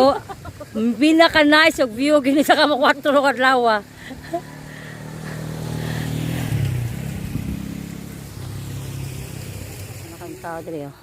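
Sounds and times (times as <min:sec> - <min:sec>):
vehicle engine running: 0:00.5 - 0:11.0.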